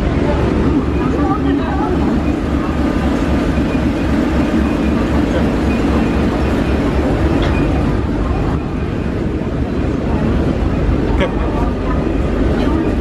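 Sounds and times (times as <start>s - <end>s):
ferry engine rumbling: 0.0s - 13.0s.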